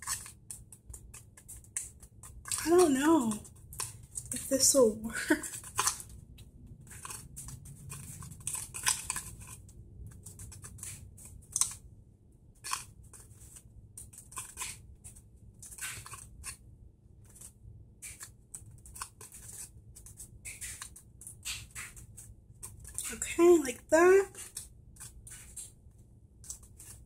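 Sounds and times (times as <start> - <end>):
plastic spoon scraping paste: 0.0 - 11.8, 12.6 - 16.6, 17.3 - 25.7.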